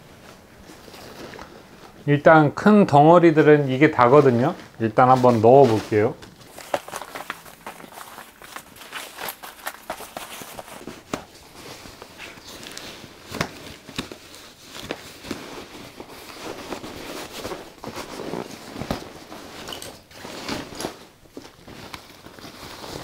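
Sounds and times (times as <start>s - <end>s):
fabric rustling and rubbing: 0.0s - 2.1s, 3.0s - 23.0s.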